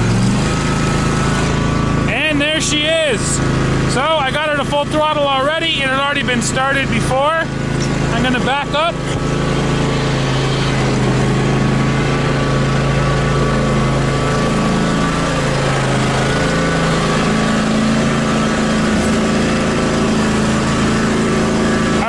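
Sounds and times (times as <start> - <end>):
lawn tractor engine running: 0.0 - 22.0.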